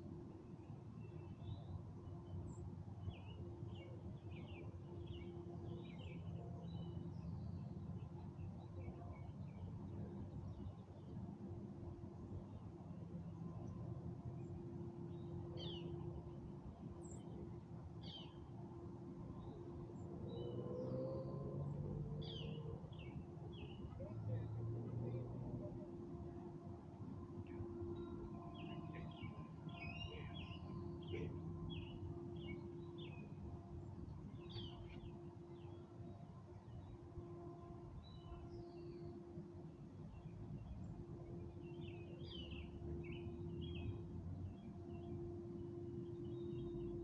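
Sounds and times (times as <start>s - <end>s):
faint steady hum: 0.0s - 47.0s
low background rumble: 0.0s - 47.0s
songbirds chirping: 0.0s - 47.0s.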